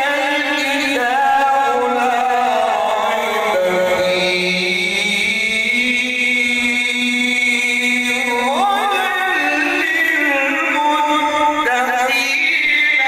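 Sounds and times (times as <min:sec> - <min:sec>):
man reciting in melodic style: 0:00.0 - 0:13.0.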